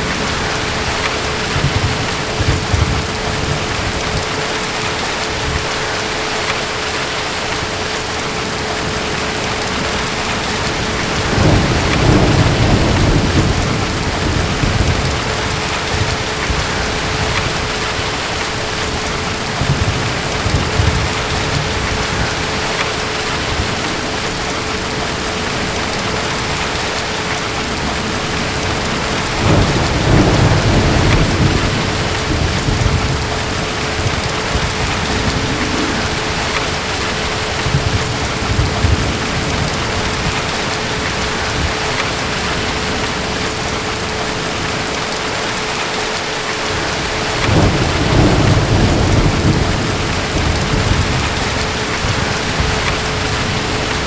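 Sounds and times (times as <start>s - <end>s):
distant thunder rolling: 0.0s - 5.8s, 8.8s - 44.0s, 46.8s - 54.0s
heavy rain: 0.0s - 54.0s.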